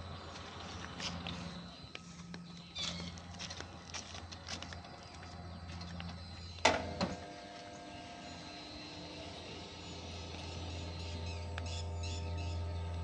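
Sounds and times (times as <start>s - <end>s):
electric hoist hum: 0.0s - 13.0s
higher steady hum: 0.0s - 13.0s.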